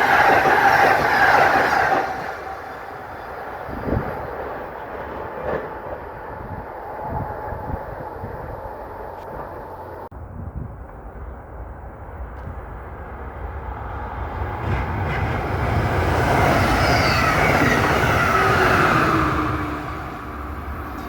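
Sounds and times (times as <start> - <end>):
passing train rumble: 0.0 - 21.0.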